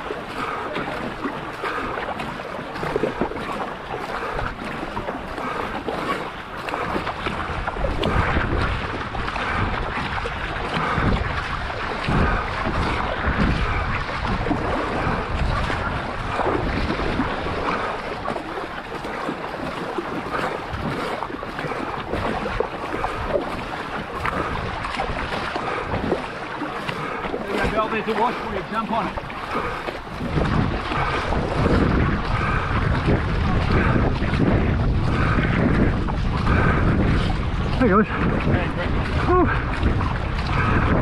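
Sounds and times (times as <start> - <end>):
paddle strokes splashing: 0.0 - 41.0
water rushing past a hull: 0.0 - 41.0
wind buffeting microphone: 0.0 - 41.0.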